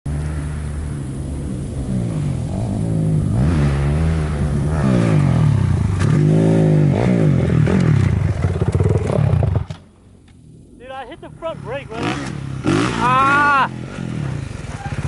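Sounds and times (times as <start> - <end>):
dirt bike engine revving: 0.1 - 9.8, 10.4 - 15.0.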